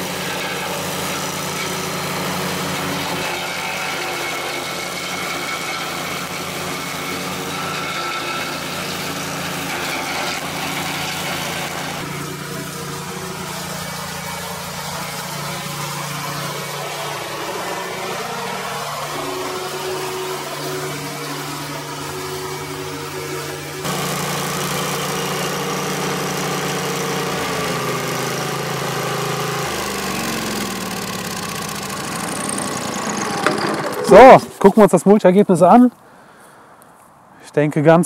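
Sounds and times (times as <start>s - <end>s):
mower engine running under load: 0.0s - 34.6s.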